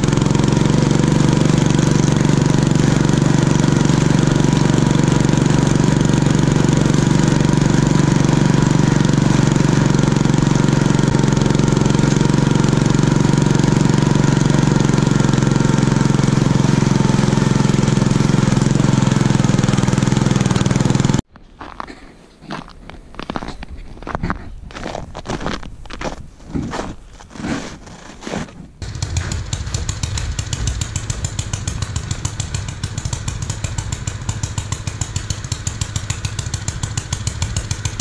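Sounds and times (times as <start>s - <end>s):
small tractor engine running: 0.0s - 21.3s, 28.8s - 38.0s.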